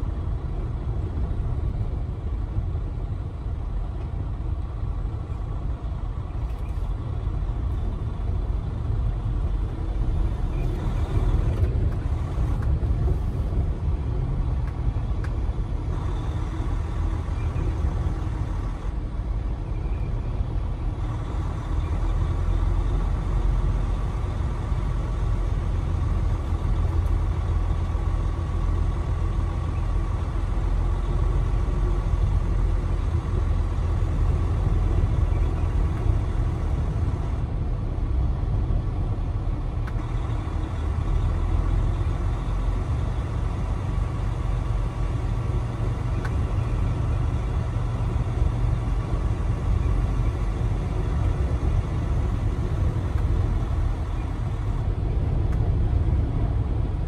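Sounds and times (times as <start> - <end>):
truck engine and road noise: 0.0 - 57.0.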